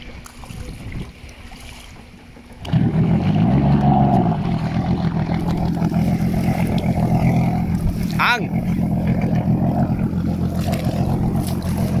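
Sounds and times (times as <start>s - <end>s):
jet ski engine revving: 1.9s - 12.0s.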